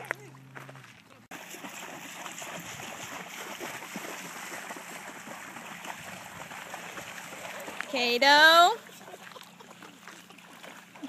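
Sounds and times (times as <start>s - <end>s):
dogs splashing through water: 1.3s - 11.0s.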